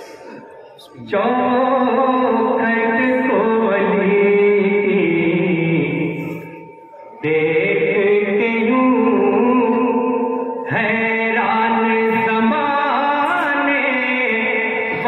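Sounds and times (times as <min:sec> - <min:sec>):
man singing through a microphone: 0:00.0 - 0:15.0.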